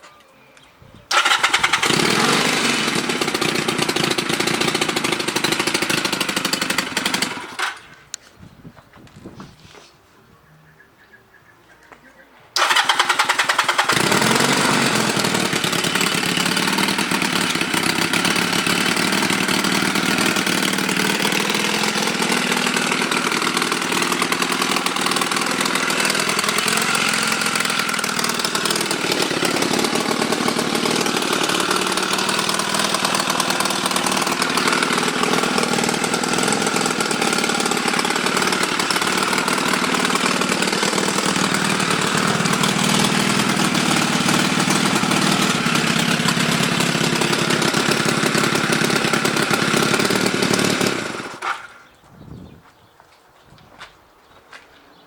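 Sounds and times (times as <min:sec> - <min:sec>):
motorcycle engine idling: 0:01.1 - 0:08.1, 0:12.6 - 0:51.9.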